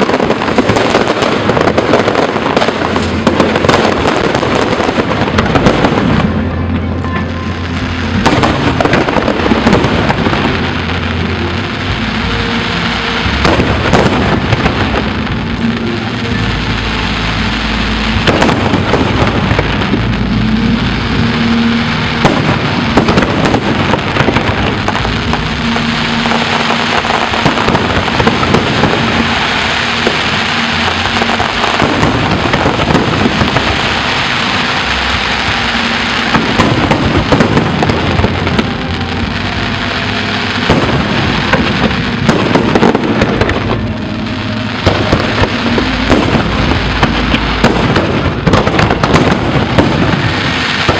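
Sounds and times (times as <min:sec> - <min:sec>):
sharp firework bangs: 0:00.0 - 0:06.4, 0:07.2 - 0:11.2, 0:13.2 - 0:15.8, 0:18.1 - 0:50.9
fireworks crackling: 0:00.0 - 0:50.9.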